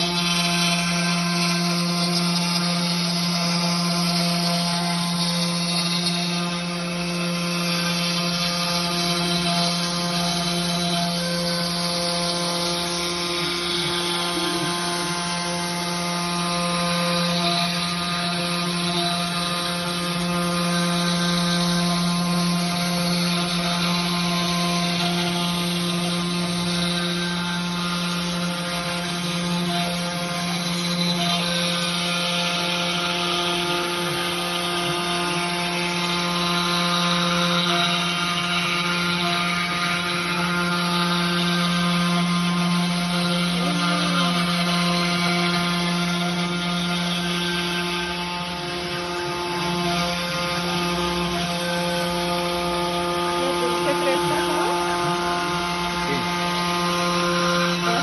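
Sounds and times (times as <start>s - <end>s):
cnc spindle whine: 0.0s - 58.0s
router cutting wood: 0.0s - 58.0s.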